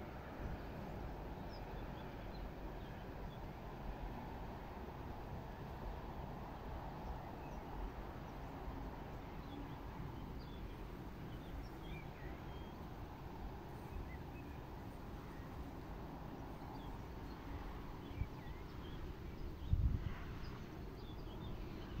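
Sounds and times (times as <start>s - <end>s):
low wind noise: 0.0s - 22.0s.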